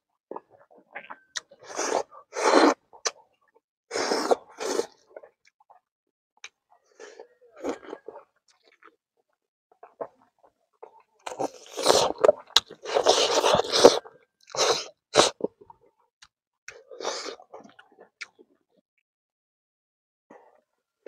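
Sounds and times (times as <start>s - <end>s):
man chewing and crunching food: 0.2s - 18.8s.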